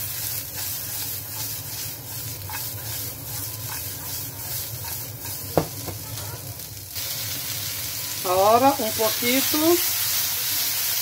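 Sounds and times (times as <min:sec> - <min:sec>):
carrots sizzling in a frying pan: 0:00.0 - 0:11.0.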